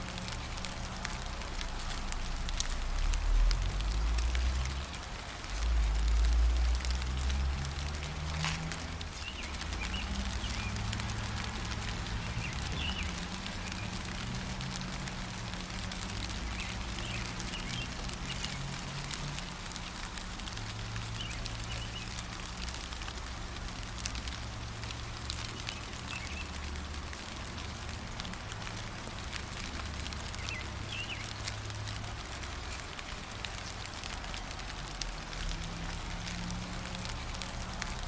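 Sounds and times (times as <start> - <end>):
gentle rain pattering: 0.0 - 38.0.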